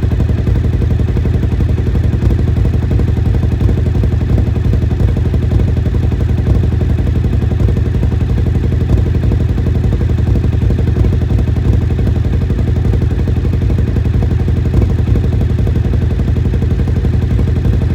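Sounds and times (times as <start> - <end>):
motorcycle engine idling: 0.0 - 17.9.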